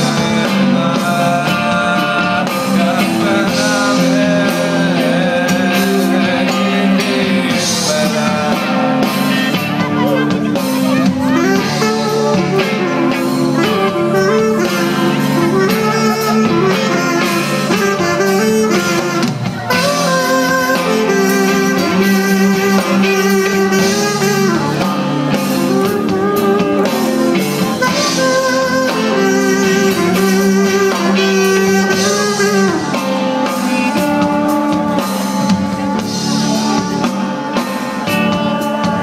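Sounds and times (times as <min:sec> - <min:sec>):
live band playing amplified music: 0:00.0 - 0:39.0.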